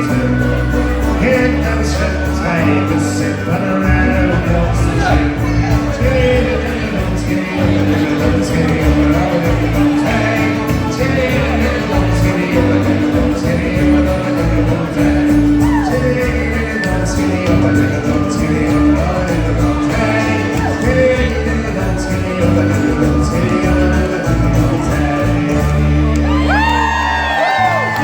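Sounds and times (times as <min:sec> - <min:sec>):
folk band playing a ballad: 0:00.0 - 0:28.0.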